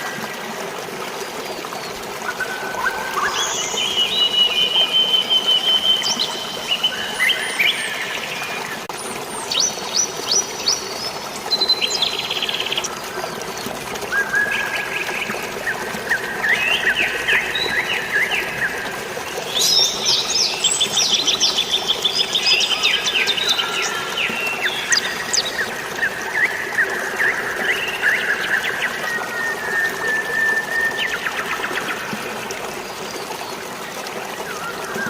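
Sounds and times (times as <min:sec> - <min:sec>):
running water: 0:00.0 - 0:35.0.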